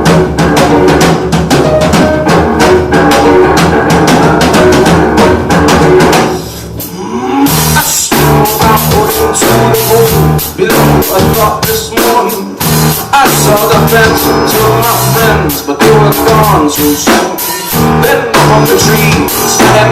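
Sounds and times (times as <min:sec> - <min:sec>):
drum kit driving beat: 0:00.0 - 0:19.9
live rock band playing: 0:00.0 - 0:19.9.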